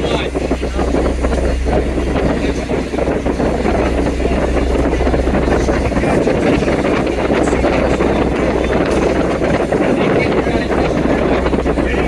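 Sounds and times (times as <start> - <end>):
boat engine drone: 0.0 - 12.0
wind buffeting microphone: 0.0 - 12.0.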